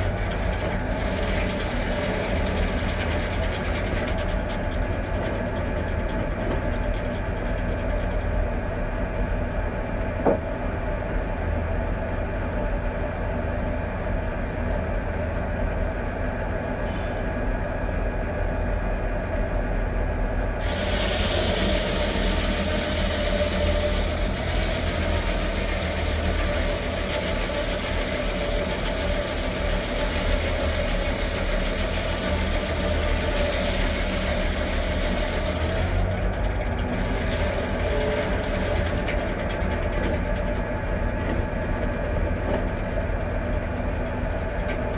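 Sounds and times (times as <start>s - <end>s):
tractor engine drone: 0.0s - 44.9s.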